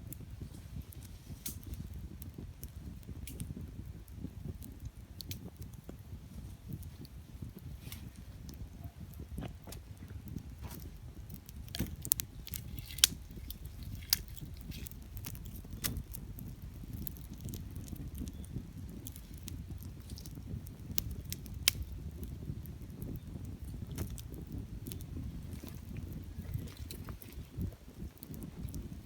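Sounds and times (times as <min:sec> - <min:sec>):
campfire crackling and popping: 0:00.0 - 0:29.0
low steady rumble: 0:00.0 - 0:29.0.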